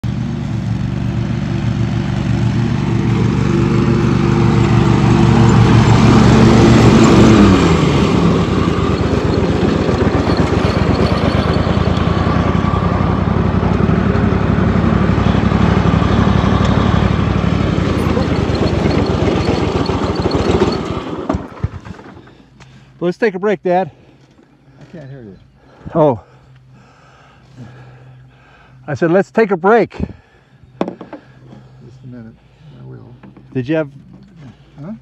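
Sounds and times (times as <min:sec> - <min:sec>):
riding lawn mower engine running: 0:00.0 - 0:23.0, 0:23.9 - 0:35.0.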